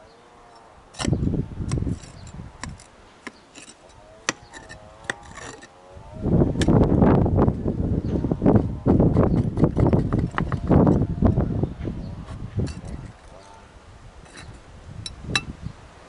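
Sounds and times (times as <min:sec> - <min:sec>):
rough crunching noise: 0:00.5 - 0:14.7.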